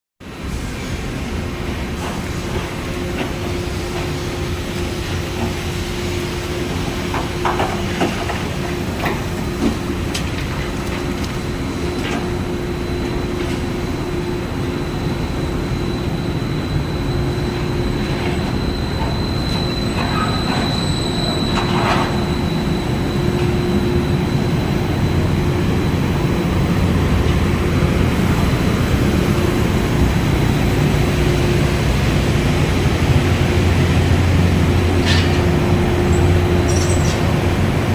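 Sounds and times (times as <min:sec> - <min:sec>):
high whine: 0:01.2 - 0:37.9
rotary dryer rumbling: 0:01.5 - 0:37.9.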